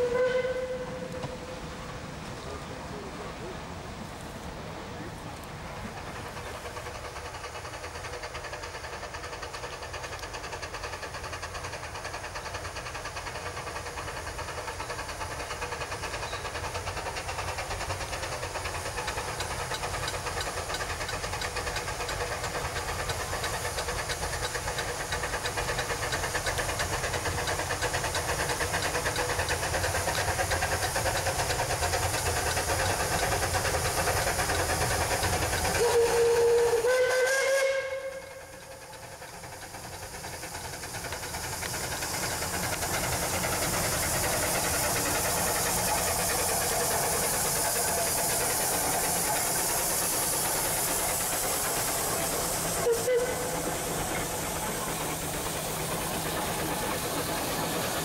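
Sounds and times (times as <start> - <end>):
steam hissing: 0.0 - 58.0
steam locomotive chuffing: 0.0 - 58.0.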